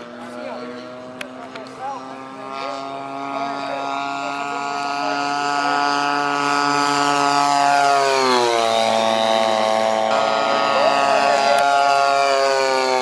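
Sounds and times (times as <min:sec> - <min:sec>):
model plane motor and propeller: 0:00.0 - 0:13.0.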